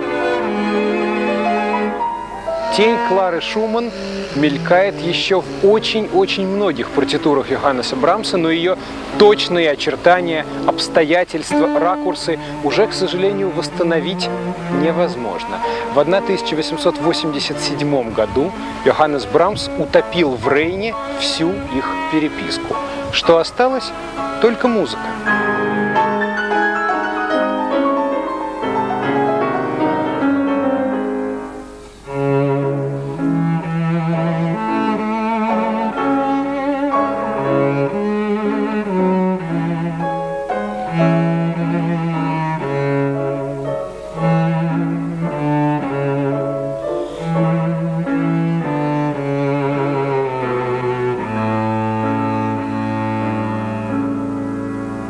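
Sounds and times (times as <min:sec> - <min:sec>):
cello playing slow notes: 0:00.0 - 0:55.0
piano accompaniment: 0:00.0 - 0:55.0.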